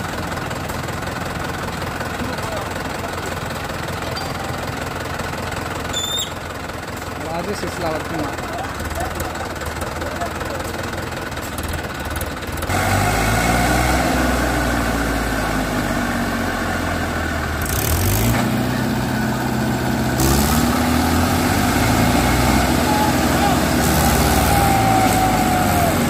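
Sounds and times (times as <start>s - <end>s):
tractor engines revving: 0.0s - 26.0s.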